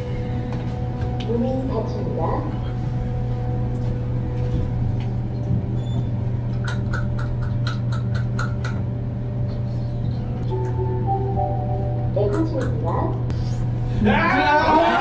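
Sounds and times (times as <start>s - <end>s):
elevator hum: 0.0s - 15.0s.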